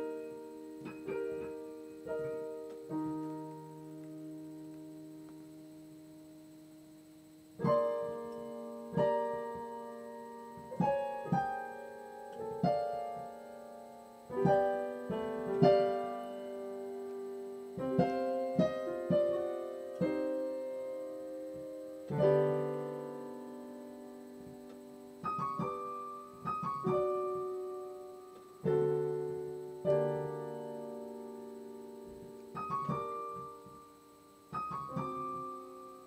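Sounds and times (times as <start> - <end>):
slow piano chords: 0.0 - 36.0.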